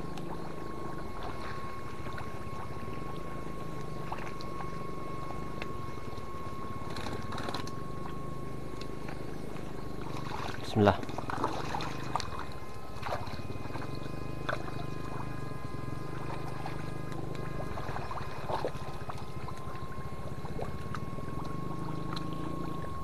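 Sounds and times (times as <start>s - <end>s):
faint water splashes: 0.0s - 6.3s, 6.9s - 23.0s
electric fish-shocker buzzing: 0.0s - 23.0s
high whining tones: 0.0s - 23.0s.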